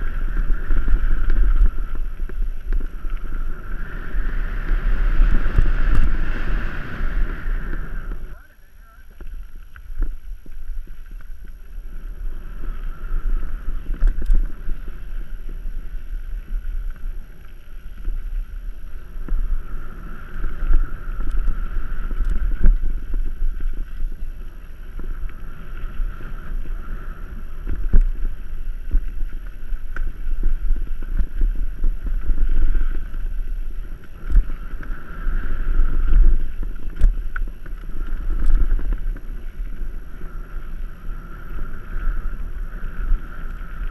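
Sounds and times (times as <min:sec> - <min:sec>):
bike rolling rumble: 0:00.0 - 0:43.9
wind buffeting microphone: 0:00.0 - 0:43.9.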